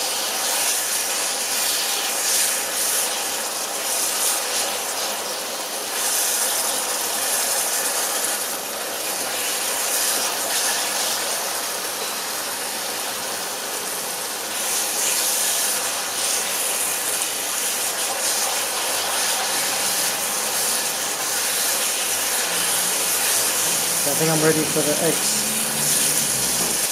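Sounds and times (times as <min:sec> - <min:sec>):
food sizzling in a pan: 0:00.0 - 0:26.9.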